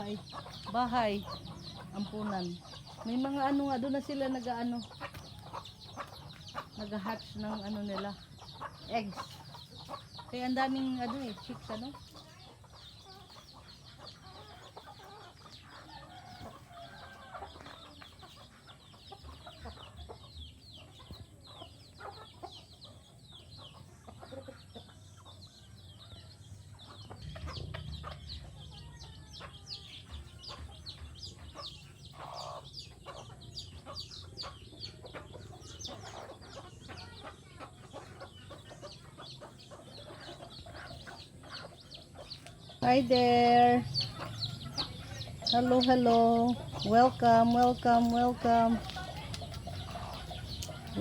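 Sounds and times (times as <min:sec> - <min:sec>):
chicken clucking: 0:00.0 - 0:51.0
chicks peeping: 0:00.0 - 0:51.0.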